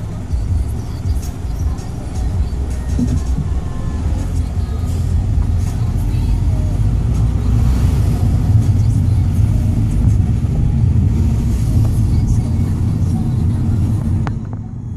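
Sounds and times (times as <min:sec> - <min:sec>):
tyre noise on road: 0:00.0 - 0:14.8
car engine: 0:00.0 - 0:14.9.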